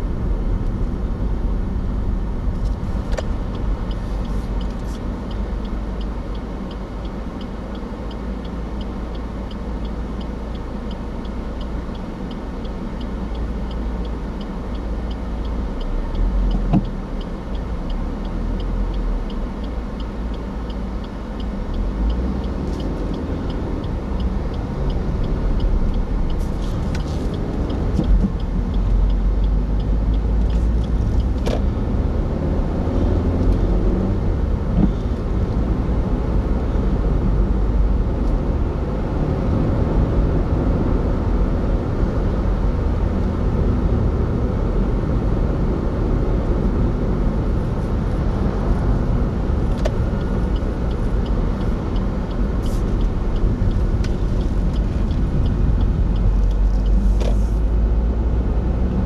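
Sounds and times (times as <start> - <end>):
car road and engine noise: 0.0 - 59.0
turn signal ticking: 0.0 - 59.0.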